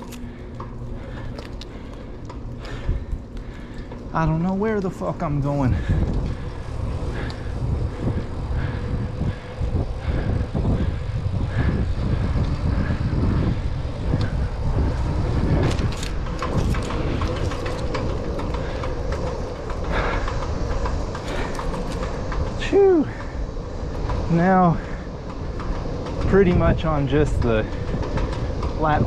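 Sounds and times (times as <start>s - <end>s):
bicycle tyre noise: 0.0s - 29.0s
bike clicks and rattles: 0.0s - 29.0s
wind rumble on microphone: 0.0s - 29.0s.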